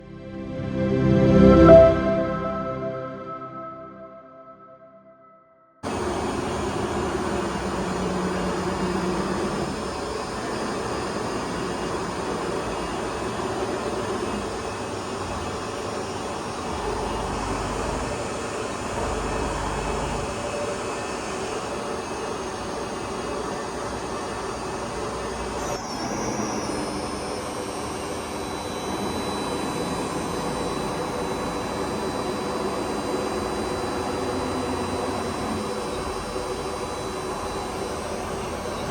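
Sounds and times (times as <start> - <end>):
lathe mechanical whir and hum: 5.9 - 38.9.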